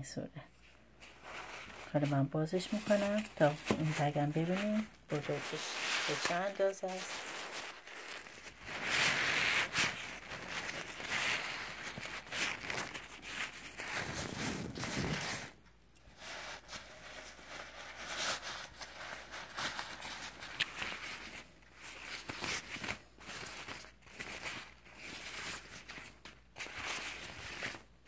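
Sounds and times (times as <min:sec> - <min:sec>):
fabric bag rustling: 0:00.6 - 0:27.9.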